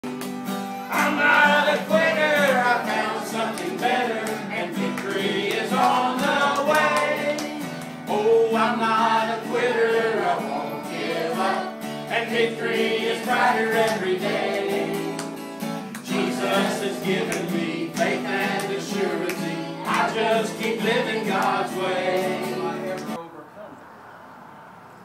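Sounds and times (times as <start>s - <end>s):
acoustic guitar chords: 0.0s - 23.2s
people singing gospel song: 0.9s - 23.2s.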